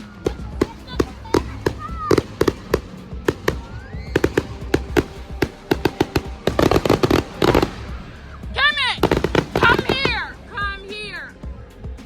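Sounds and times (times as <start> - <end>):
fireworks bangs and crackles: 0.0 - 10.7.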